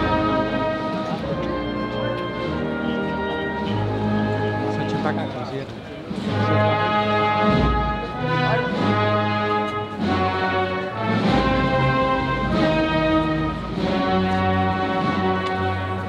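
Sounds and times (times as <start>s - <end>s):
brass band playing march: 0.0s - 16.0s.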